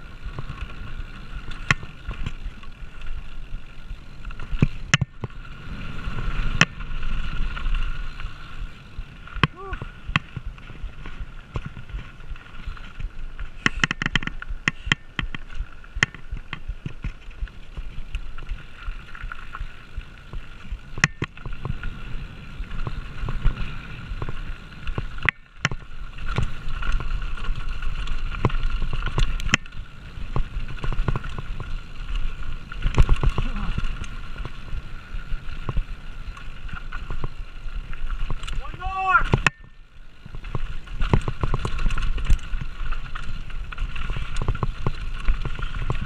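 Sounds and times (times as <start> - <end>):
bike clicks and rattles: 0.0 - 46.0
tyres rumbling over dirt and stones: 0.0 - 46.0.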